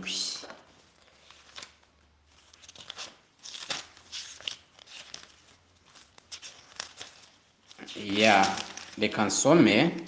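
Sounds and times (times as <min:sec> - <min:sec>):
paper pages rustling: 0:00.4 - 0:10.0.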